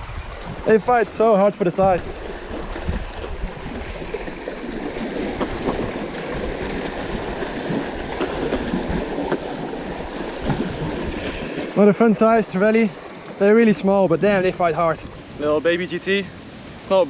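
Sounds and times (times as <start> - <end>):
sea water lapping against rocks: 0.0 - 14.4.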